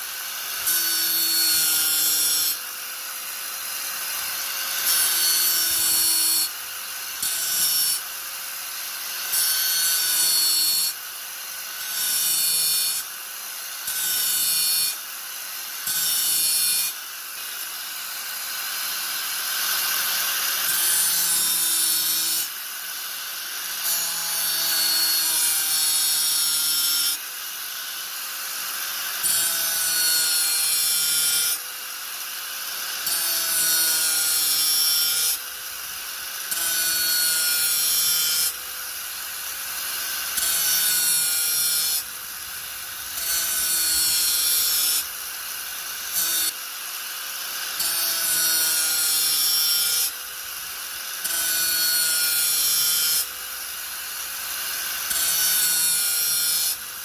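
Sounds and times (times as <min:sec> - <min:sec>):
angle grinder cutting: 0:00.0 - 0:57.0.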